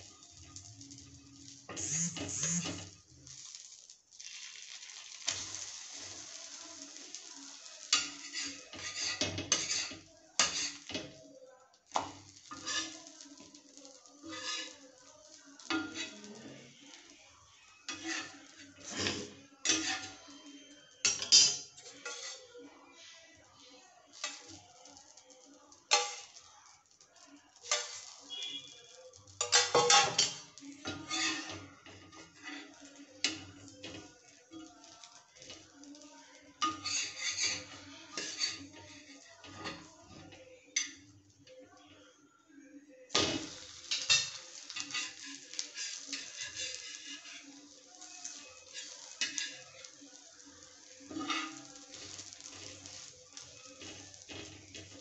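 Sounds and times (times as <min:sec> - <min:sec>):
egg sizzling: 0:00.0 - 0:22.5, 0:23.6 - 0:40.1, 0:43.1 - 0:55.0
metal spatula scraping griddle: 0:01.0 - 0:03.1, 0:05.2 - 0:11.2, 0:11.9 - 0:17.1, 0:17.8 - 0:20.4, 0:21.0 - 0:22.5, 0:24.1 - 0:26.5, 0:27.6 - 0:41.0, 0:43.1 - 0:55.0.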